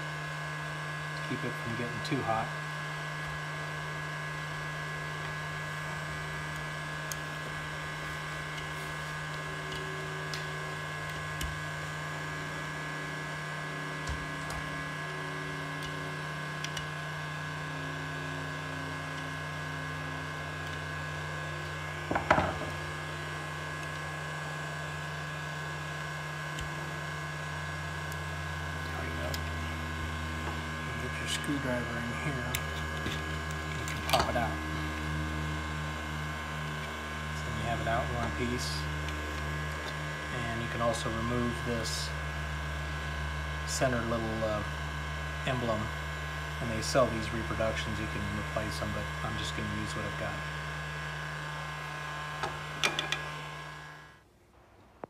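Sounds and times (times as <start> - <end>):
steady electric hum: 0.0 - 55.0.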